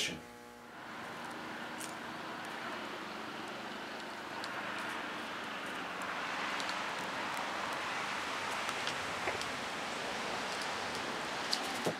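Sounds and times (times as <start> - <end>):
outdoor wind hiss: 0.0 - 11.9.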